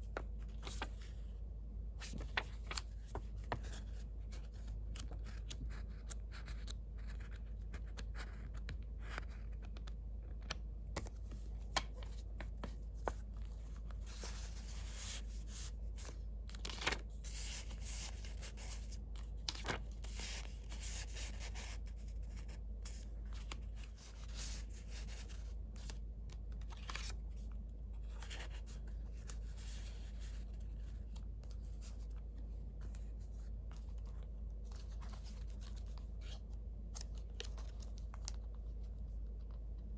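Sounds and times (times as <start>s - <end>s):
paper pages rustling and flapping: 0.1s - 1.2s, 2.0s - 39.6s.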